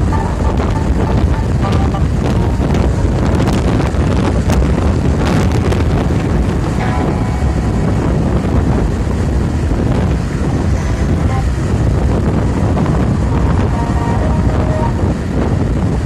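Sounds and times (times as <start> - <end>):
loud car stereo bass: 0.0 - 16.0.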